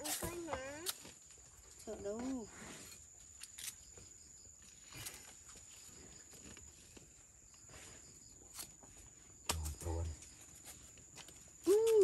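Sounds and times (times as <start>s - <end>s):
high insect whine: 0.0s - 12.0s.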